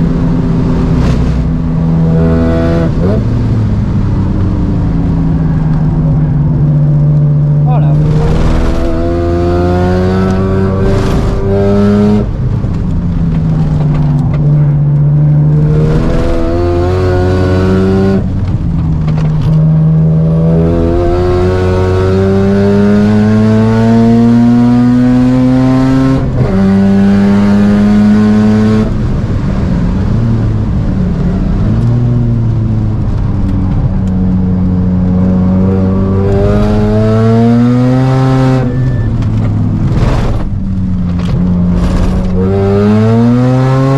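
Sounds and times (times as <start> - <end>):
rotary engine accelerating: 0.3 - 12.8, 13.4 - 29.0, 34.8 - 43.9.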